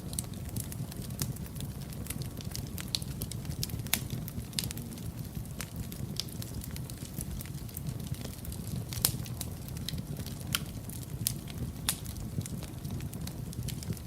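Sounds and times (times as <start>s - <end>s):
fire crackling pops: 0.0s - 14.0s
low rumble of burning: 0.0s - 14.0s.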